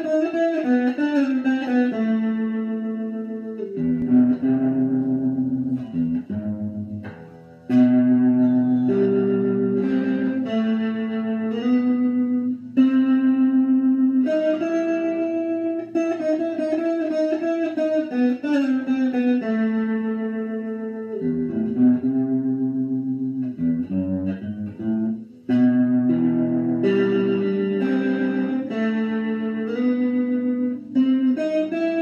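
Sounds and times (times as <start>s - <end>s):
electric guitar playing: 0.0s - 32.0s.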